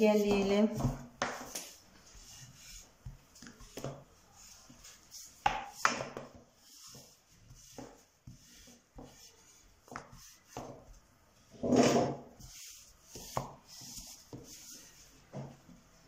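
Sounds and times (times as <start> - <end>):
rolling pin rolling dough: 0.0 - 16.0.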